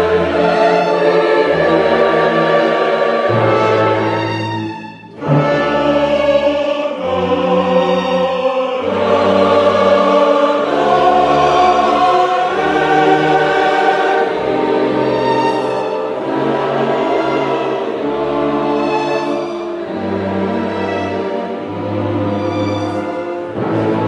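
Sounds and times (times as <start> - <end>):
choir singing sustained chords: 0.0 - 24.0
orchestra playing: 0.0 - 24.0.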